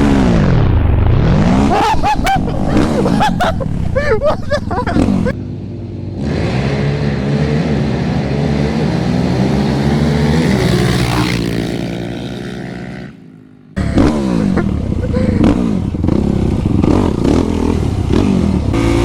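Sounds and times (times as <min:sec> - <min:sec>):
engine revving: 0:00.0 - 0:05.4, 0:06.1 - 0:13.2, 0:13.8 - 0:19.0
quad engine accelerating: 0:00.0 - 0:13.2, 0:13.8 - 0:19.0.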